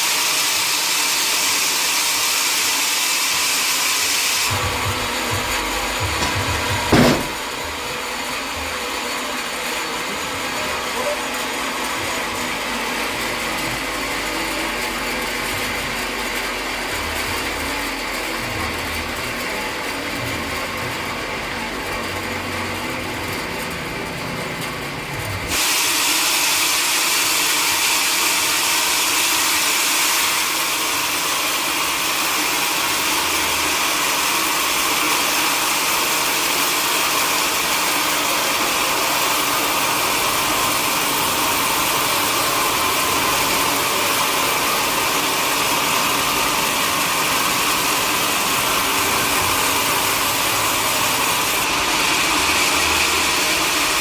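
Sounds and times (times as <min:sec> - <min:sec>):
saw cutting through log: 0:00.0 - 0:24.3, 0:25.4 - 0:54.0
sawmill machinery running: 0:00.0 - 0:54.0.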